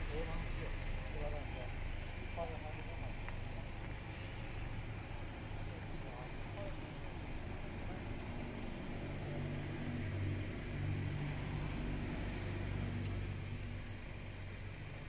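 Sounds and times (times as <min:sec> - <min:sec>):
car engine driving past: 0:00.0 - 0:15.0.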